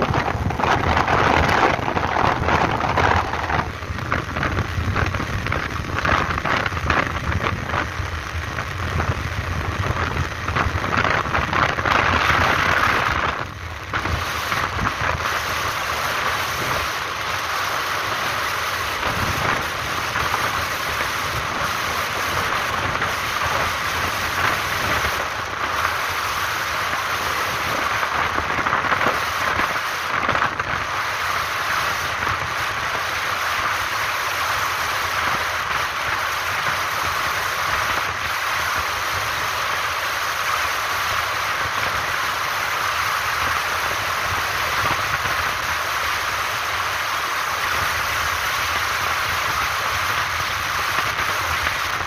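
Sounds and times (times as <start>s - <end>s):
road noise: 0.0s - 52.0s
wind rush: 0.0s - 52.0s.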